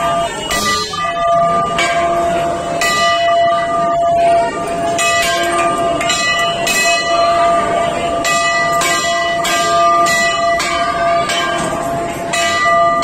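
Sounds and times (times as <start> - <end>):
metal bells struck and ringing: 0.0 - 13.0.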